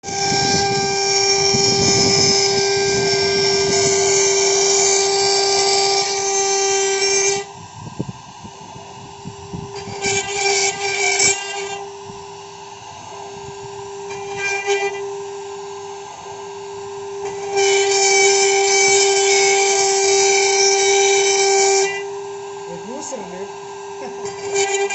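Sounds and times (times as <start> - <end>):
router high-pitched whine: 0.0 - 24.9.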